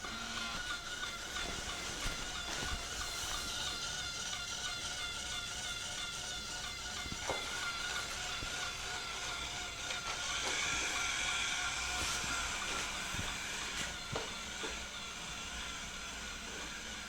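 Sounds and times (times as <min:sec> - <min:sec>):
robot vacuum cleaner whirring: 0:00.0 - 0:17.0.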